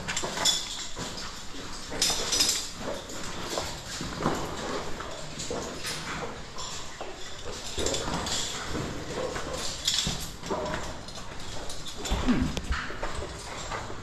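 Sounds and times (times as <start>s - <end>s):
clothing and gear rustling: 0.0s - 14.0s.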